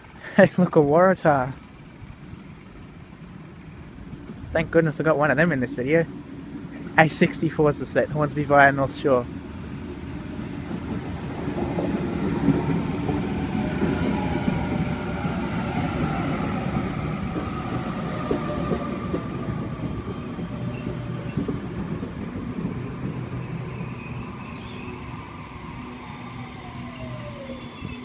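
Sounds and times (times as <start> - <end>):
rumble of train wheels: 0.0 - 28.0
train traction motors whining: 1.2 - 28.0.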